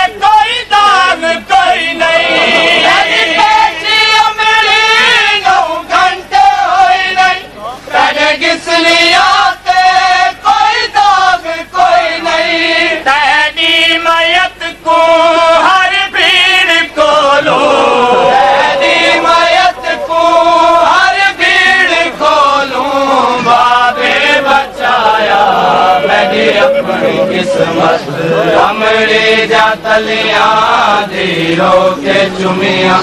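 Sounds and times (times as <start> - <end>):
voices chanting a lament in chorus: 0.0 - 33.0.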